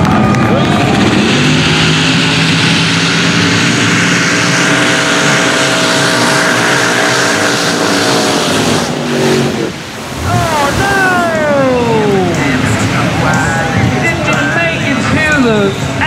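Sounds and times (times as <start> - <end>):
buggy engine high-revving: 0.0 - 16.0.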